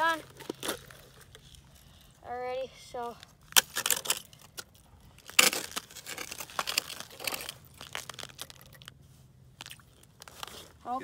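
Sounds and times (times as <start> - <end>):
crunching and crinkling: 0.0 - 2.4, 3.0 - 11.0.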